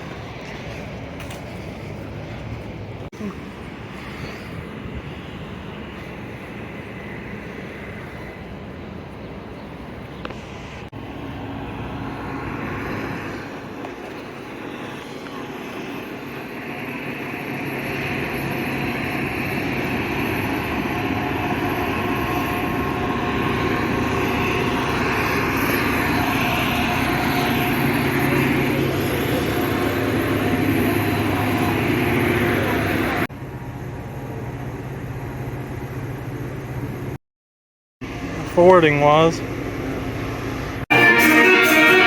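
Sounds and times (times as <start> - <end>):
engine humming: 0.0 - 37.2.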